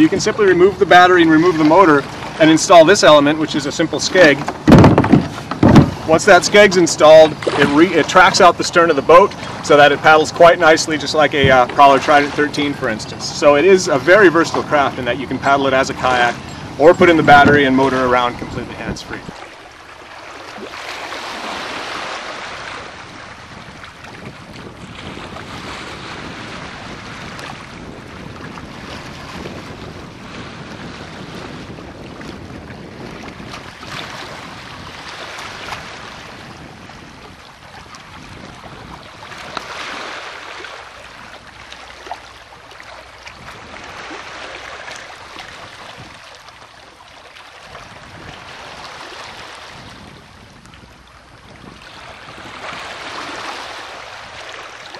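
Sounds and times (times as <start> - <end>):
wind gusting on microphone: 0.0 - 19.6, 20.6 - 41.6, 43.2 - 46.3, 47.7 - 54.7
small waves lapping at shore: 0.0 - 54.9.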